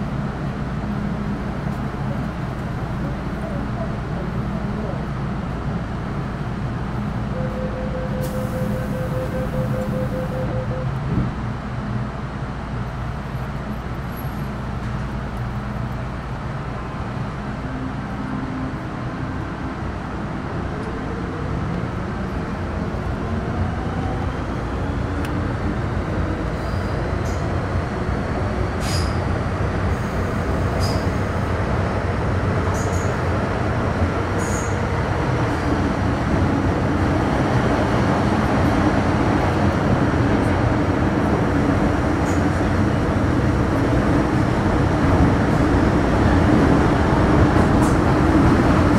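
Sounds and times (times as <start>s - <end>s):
wheels rumbling on track: 0.0s - 48.9s.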